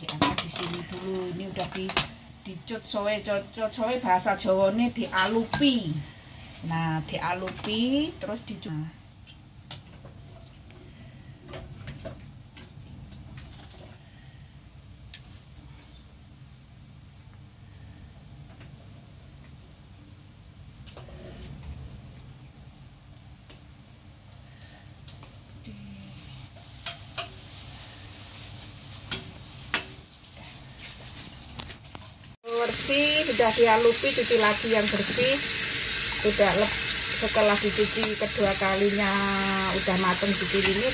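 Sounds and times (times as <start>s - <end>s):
pot of water boiling: 0.0s - 40.9s.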